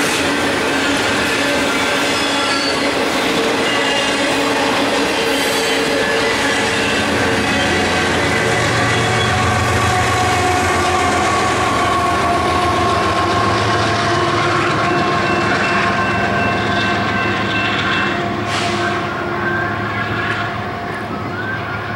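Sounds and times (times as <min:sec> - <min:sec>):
freight train rumbling: 0:00.0 - 0:21.9.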